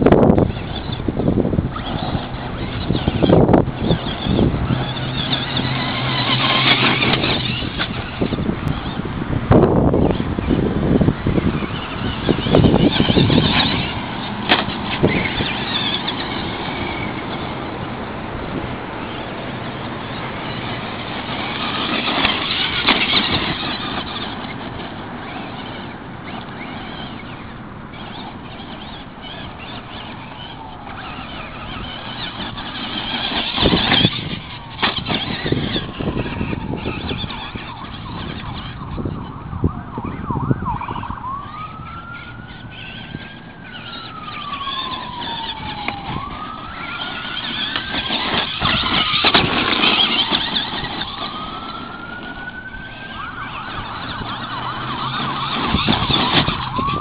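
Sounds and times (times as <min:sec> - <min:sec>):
siren wailing: 0:00.0 - 0:17.8, 0:18.9 - 0:57.0
rc truck tyres crunching on gravel: 0:00.0 - 0:39.2, 0:42.2 - 0:57.0.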